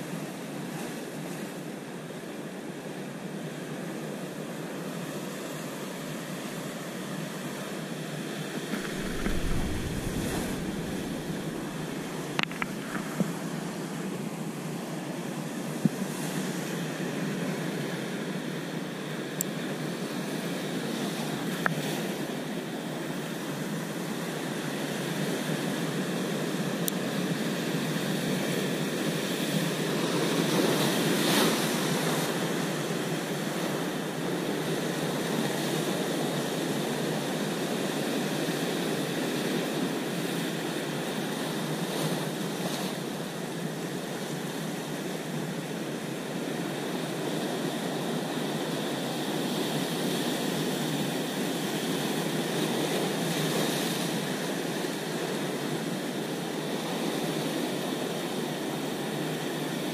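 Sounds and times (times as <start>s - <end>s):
surf washing over rocks: 8.3s - 59.9s.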